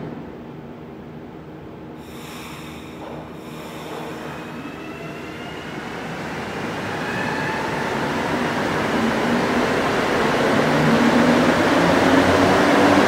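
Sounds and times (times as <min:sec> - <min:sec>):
train running noise: 0:02.0 - 0:13.0.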